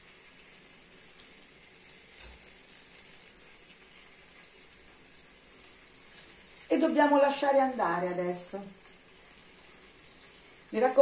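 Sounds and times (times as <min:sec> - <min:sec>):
meat sizzling in frying pan: 0:00.0 - 0:11.0.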